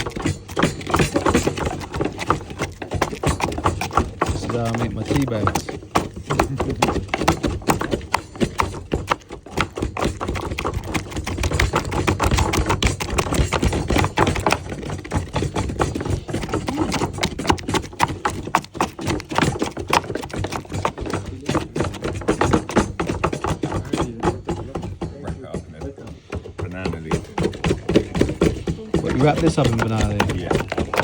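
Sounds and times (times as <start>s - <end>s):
clicking and knocking while mashing: 0.0s - 31.0s.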